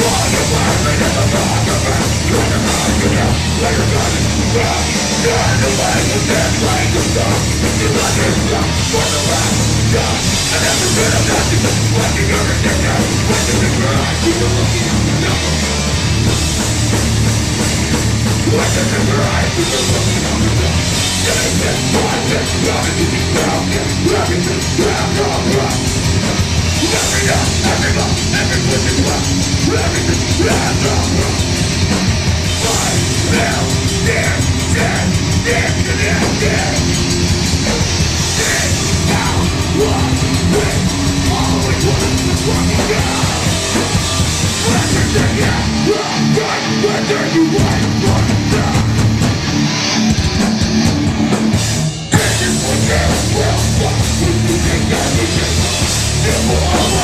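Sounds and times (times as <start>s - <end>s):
distorted guitar and bass: 0.0s - 57.0s
pounding drum kit: 0.0s - 57.0s.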